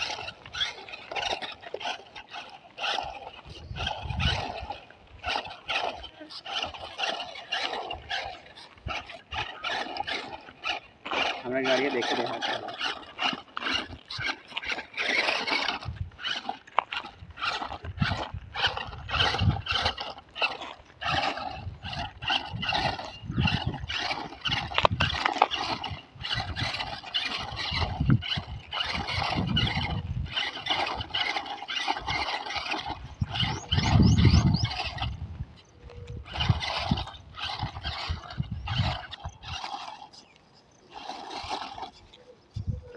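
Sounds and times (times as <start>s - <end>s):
toy car motor whirring: 0.0s - 42.9s.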